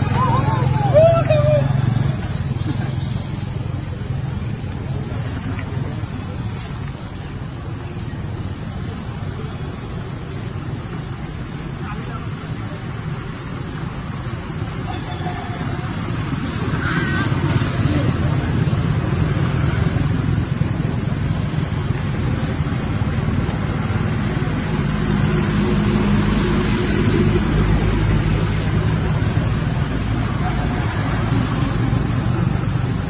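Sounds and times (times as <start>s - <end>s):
low rumbling noise: 0.0s - 33.0s.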